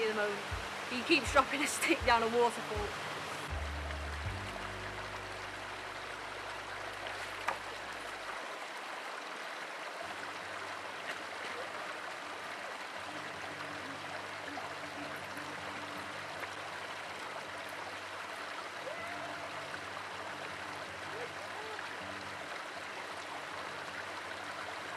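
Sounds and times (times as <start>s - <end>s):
stream rushing over stones: 0.0s - 24.9s.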